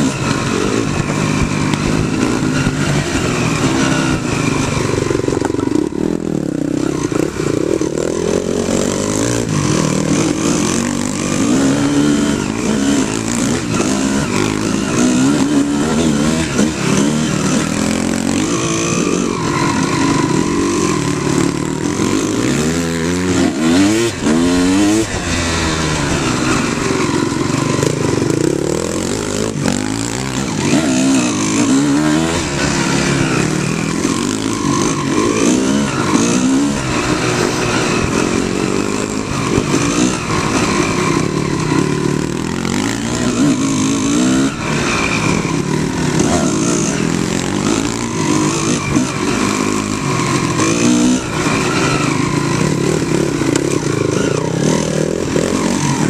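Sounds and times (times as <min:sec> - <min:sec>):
off-road motorcycle engine revving: 0:00.0 - 0:56.0.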